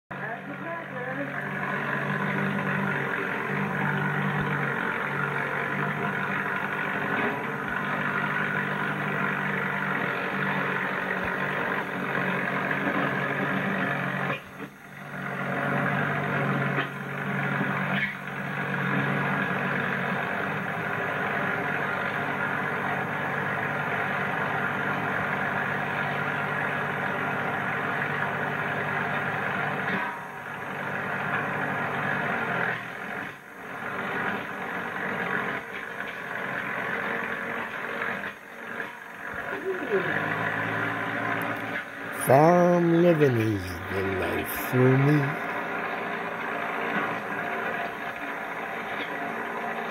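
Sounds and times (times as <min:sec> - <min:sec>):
tractor engine running: 0:00.4 - 0:33.2, 0:33.8 - 0:49.9.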